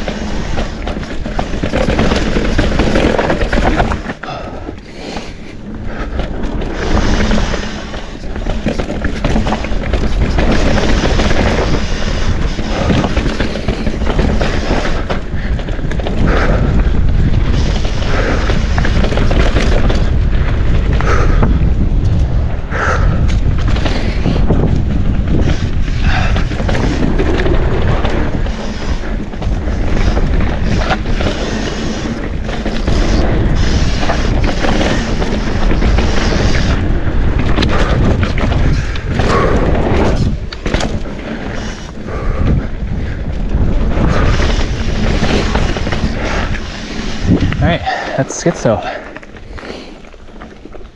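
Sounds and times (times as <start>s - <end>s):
bike rattling and knocking: 0.0s - 50.9s
tyre rumble: 0.0s - 50.9s
wind buffeting microphone: 0.0s - 50.9s.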